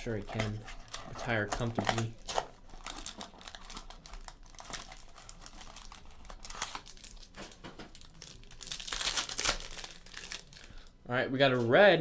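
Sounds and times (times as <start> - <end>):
card pack wrapper crinkling: 0.0 - 11.0.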